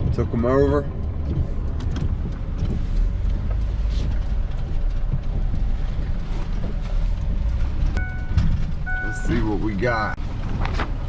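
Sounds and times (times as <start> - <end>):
road noise: 0.0 - 11.0
truck engine low rumble: 0.0 - 11.0.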